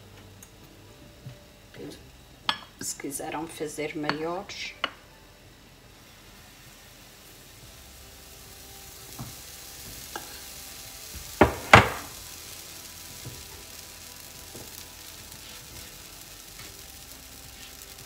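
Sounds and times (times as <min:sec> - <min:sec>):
pancake batter sizzling on griddle: 0:00.0 - 0:18.0.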